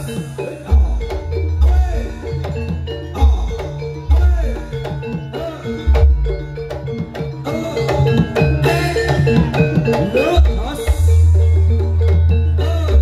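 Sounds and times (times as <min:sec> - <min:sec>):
percussion ensemble playing: 0:00.0 - 0:13.0
ringing metallophone tones: 0:00.0 - 0:13.0.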